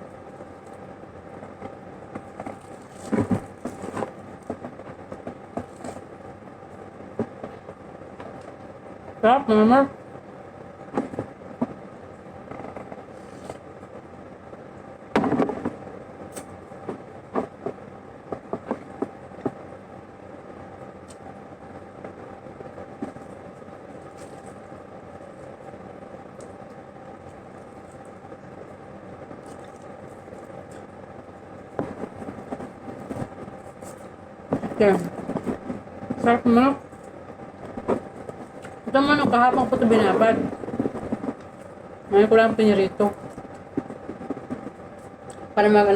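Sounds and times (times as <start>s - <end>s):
steady background hum: 0.0s - 45.9s.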